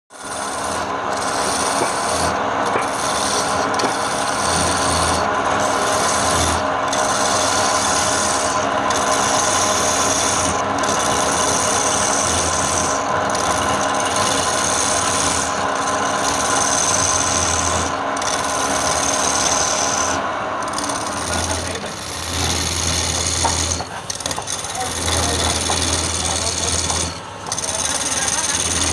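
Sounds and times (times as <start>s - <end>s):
wood rasping under abrasion: 0.2s - 28.9s.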